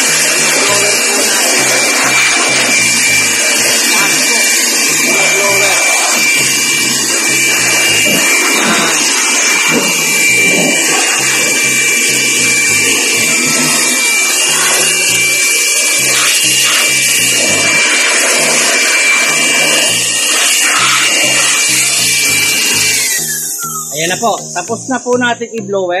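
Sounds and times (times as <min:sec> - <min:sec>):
electric blower whining: 0:00.0 - 0:25.7.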